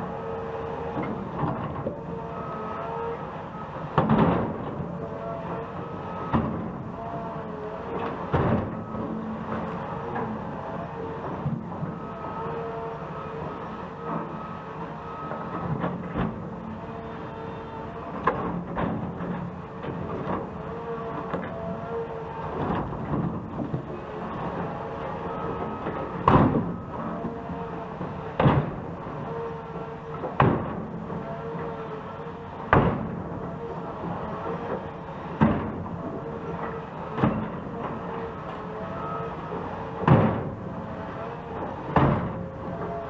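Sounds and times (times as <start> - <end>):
heavy machinery engine hum: 0.0 - 43.0.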